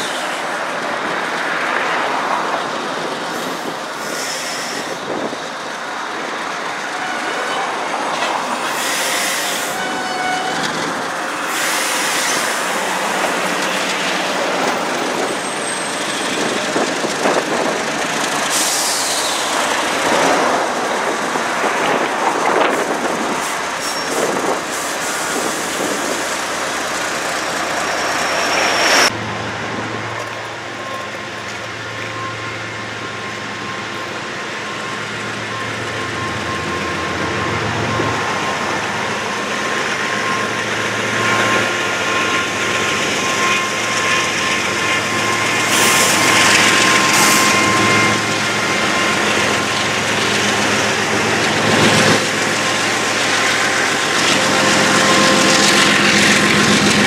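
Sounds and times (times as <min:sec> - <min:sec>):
train wheels rumbling on rail: 0:00.0 - 0:57.0
high wheel squeals: 0:03.3 - 0:05.0, 0:06.8 - 0:17.1, 0:18.4 - 0:20.0, 0:23.3 - 0:29.1, 0:30.4 - 0:57.0.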